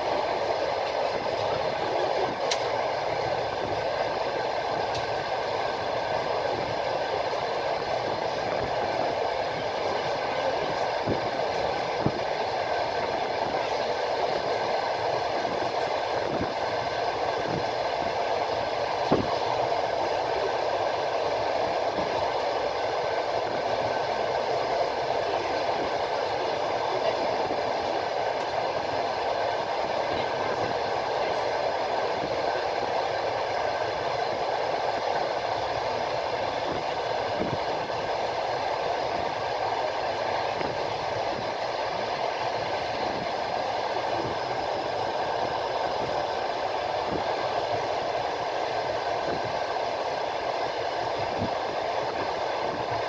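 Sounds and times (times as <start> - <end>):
train wheels rolling on rails: 0.0 - 53.0.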